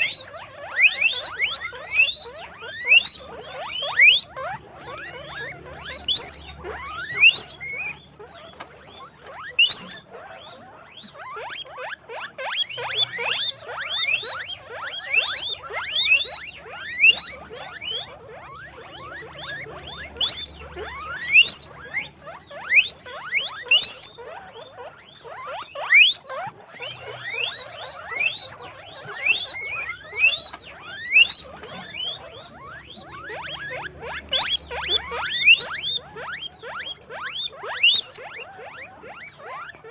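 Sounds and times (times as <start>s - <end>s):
guinea pigs squeaking: 0.0s - 39.9s.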